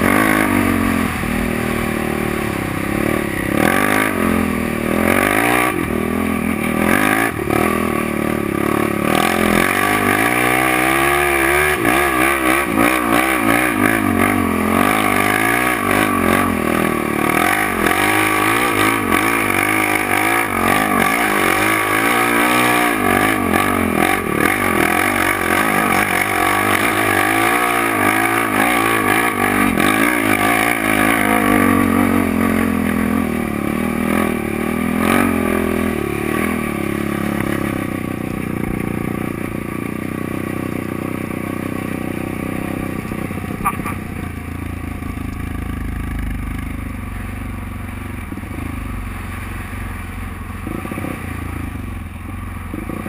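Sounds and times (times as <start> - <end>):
quad engine revving: 0.0 - 47.2.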